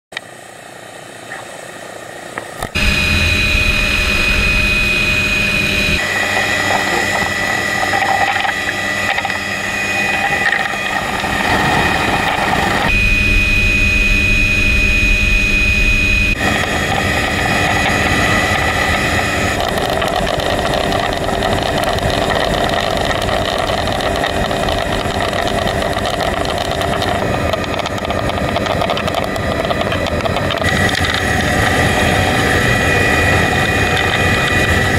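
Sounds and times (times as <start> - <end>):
helicopter turbine whine: 0.2 - 34.9
helicopter rotor noise: 0.3 - 34.9.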